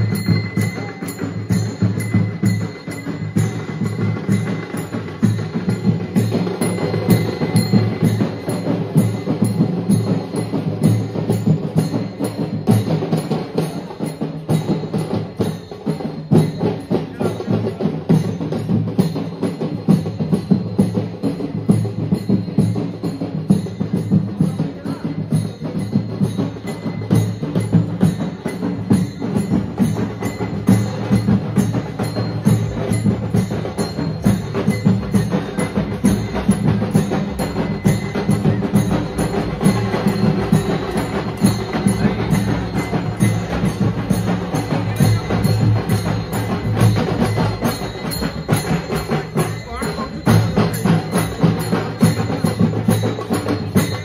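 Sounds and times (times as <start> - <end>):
drums and percussion beating: 0.0 - 54.0.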